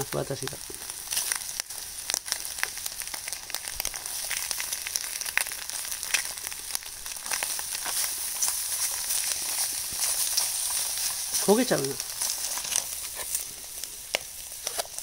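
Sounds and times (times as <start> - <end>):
sharp crackles and pops: 0.0 - 15.0
vegetables sizzling in a tray: 0.0 - 15.0.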